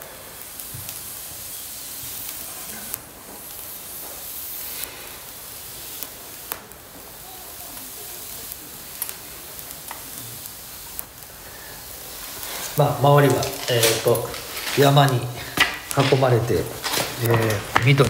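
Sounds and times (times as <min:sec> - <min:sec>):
damp wood hissing and sizzling: 0:00.0 - 0:18.0
fire crackles and pops: 0:00.0 - 0:18.0.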